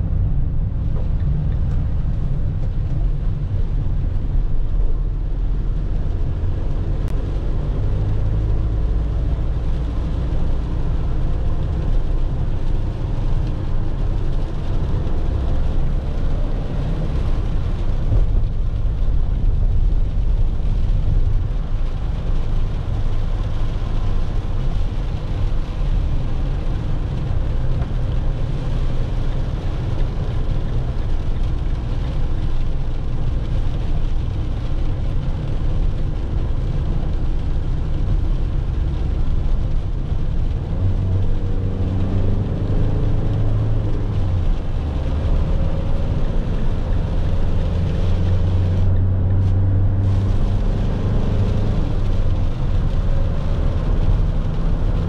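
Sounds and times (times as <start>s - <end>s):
tyres hissing on wet road: 0.0s - 55.0s
van engine and road rumble: 0.0s - 55.0s.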